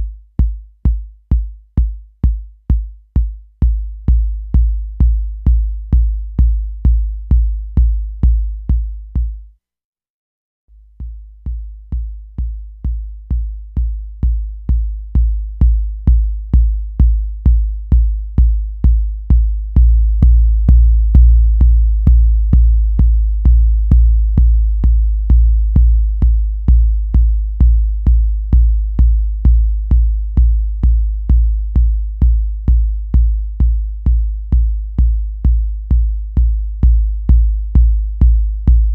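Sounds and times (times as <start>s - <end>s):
electronic kick drum hits: 0.0s - 9.4s, 11.0s - 38.9s.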